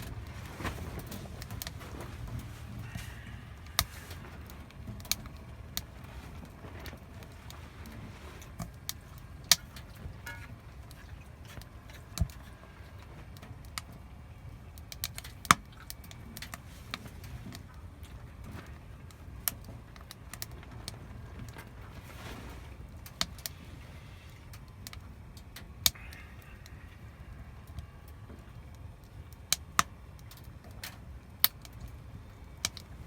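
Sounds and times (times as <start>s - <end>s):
firewood crackling: 0.0s - 33.0s.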